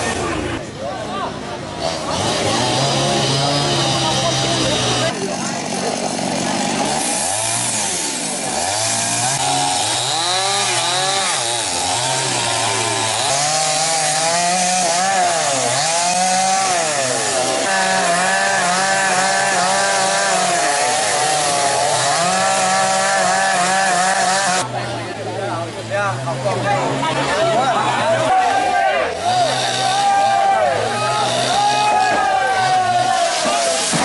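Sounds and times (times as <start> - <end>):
chainsaws cutting wood: 1.7 - 24.8, 29.1 - 34.0.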